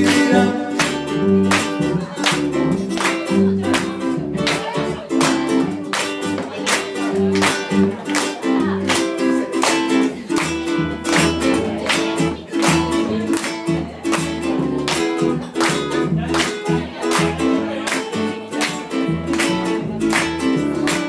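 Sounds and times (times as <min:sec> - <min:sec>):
acoustic guitar strummed reggae rhythm: 0:00.0 - 0:21.0.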